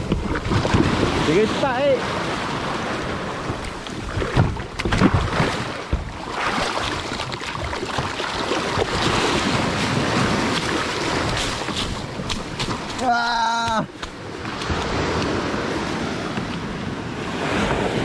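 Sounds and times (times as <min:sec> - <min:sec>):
sea water splashing: 0:00.0 - 0:18.0.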